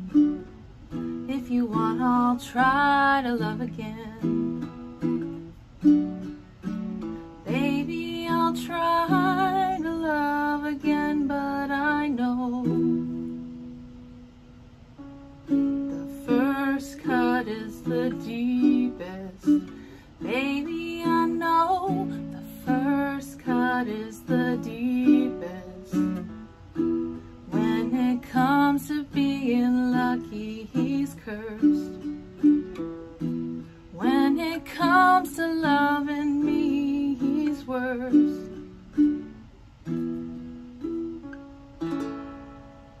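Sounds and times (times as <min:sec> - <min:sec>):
ukulele strumming chords: 0:00.0 - 0:43.0.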